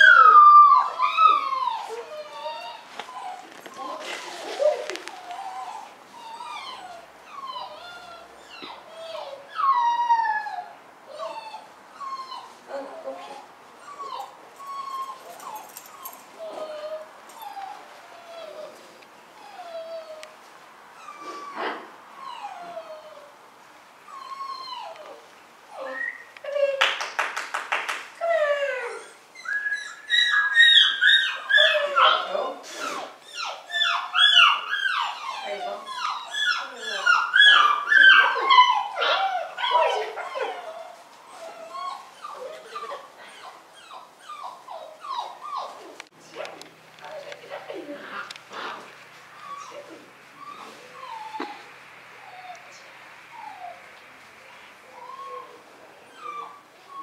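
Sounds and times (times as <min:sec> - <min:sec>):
puppy whining: 0:00.0 - 0:20.4, 0:21.0 - 0:23.4, 0:24.1 - 0:27.0, 0:28.2 - 0:46.2, 0:47.0 - 0:53.9, 0:54.6 - 0:57.0.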